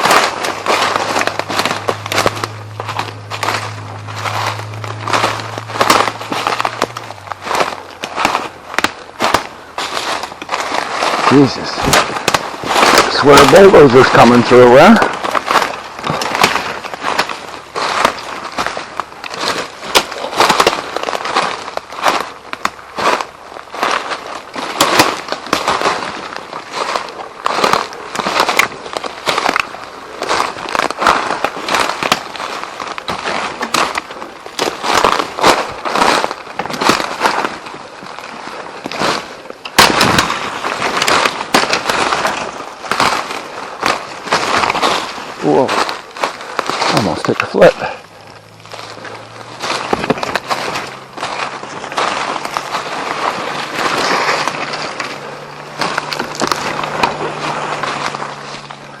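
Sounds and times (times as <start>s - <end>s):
brush scraping: 0.0s - 59.0s
footsteps through undergrowth: 0.0s - 59.0s
twigs snapping: 0.0s - 59.0s.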